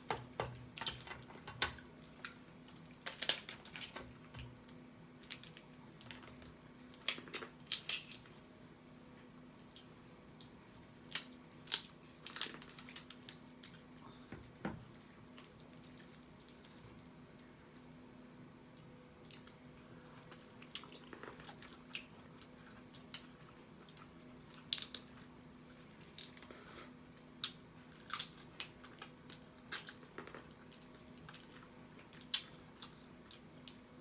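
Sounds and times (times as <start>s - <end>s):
cracking and crunching shellfish: 0.0s - 8.5s, 9.7s - 18.0s, 18.7s - 34.0s
faint steady hum: 0.0s - 34.0s.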